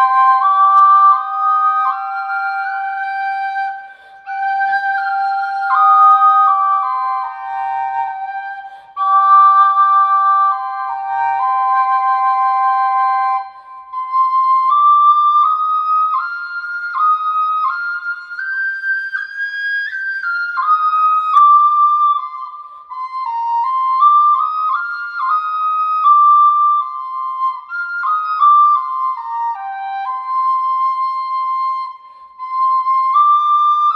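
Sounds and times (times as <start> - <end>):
flute playing slow melody: 0.0 - 33.9.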